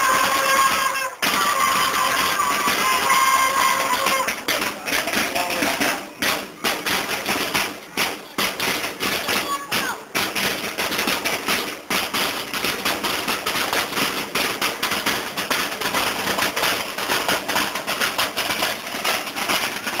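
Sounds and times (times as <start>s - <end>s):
field drums beating march cadence: 0.0s - 20.0s.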